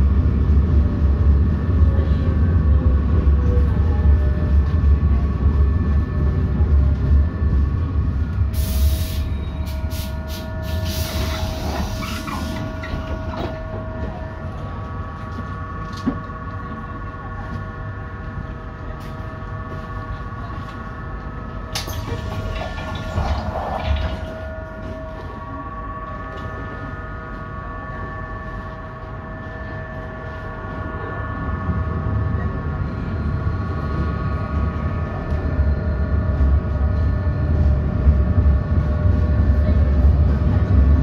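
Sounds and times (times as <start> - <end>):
tram running rumble: 0.0 - 41.0.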